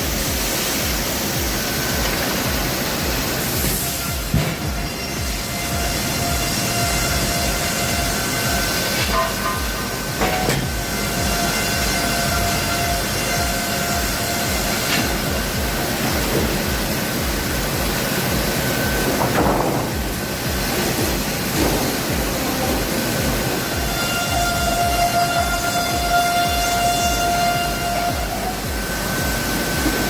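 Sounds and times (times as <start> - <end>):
sawmill machinery rumble and whine: 0.0 - 30.0.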